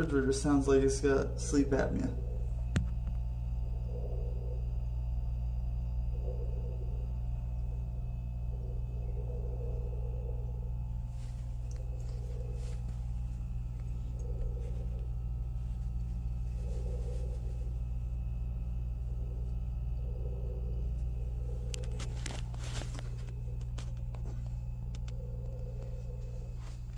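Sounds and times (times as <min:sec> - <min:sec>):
refrigerator humming: 0:00.0 - 0:26.9
soft pulsing sound: 0:00.0 - 0:26.9.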